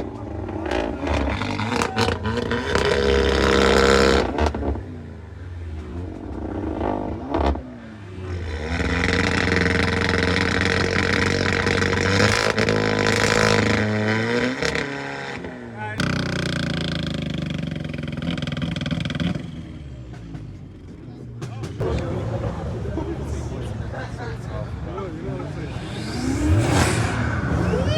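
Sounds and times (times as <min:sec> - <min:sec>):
performance car engine revving: 0:00.0 - 0:20.3, 0:24.7 - 0:27.9.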